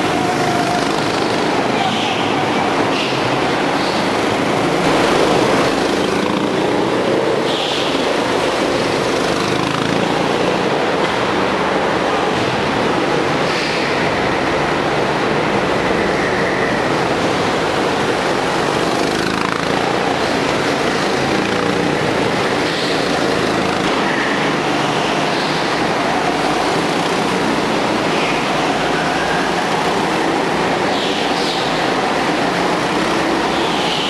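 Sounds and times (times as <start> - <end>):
go-kart engines echoing: 0.0 - 34.0.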